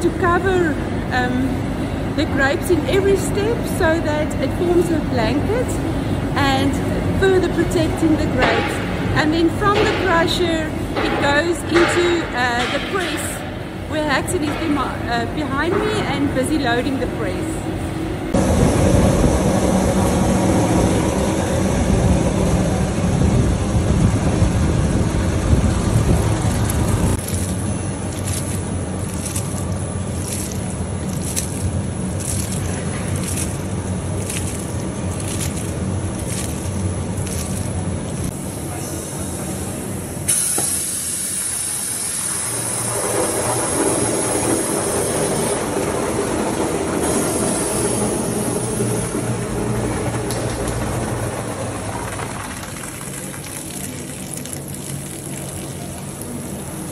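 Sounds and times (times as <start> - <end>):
machinery rumbling: 0.0 - 40.3, 41.2 - 56.9
steady machine hum: 0.0 - 56.9.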